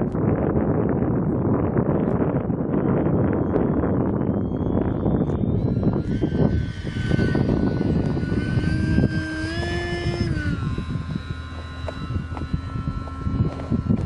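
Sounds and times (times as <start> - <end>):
wind buffeting microphone: 0.0 - 14.0
model plane motor whine: 0.1 - 14.0.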